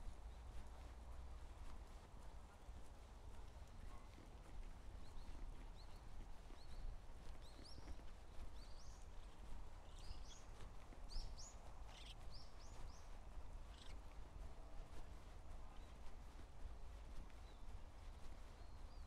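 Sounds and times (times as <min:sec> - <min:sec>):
small birds chirping: 0:03.1 - 0:19.0.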